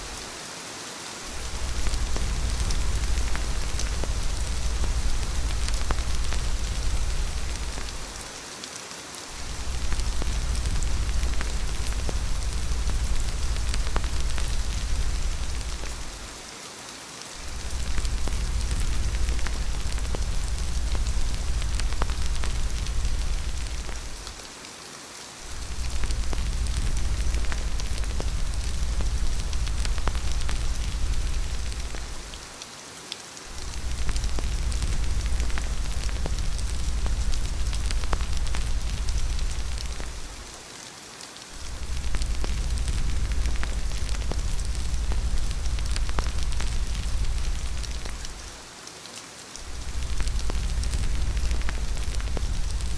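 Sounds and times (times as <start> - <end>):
steady rain: 0.0 - 52.9
faint crackles: 1.2 - 16.5, 17.2 - 24.7, 25.4 - 52.9
deep rumble of wind: 1.3 - 8.4, 9.3 - 16.4, 17.4 - 24.5, 25.5 - 32.6, 33.5 - 40.6, 41.6 - 48.6, 49.6 - 52.9.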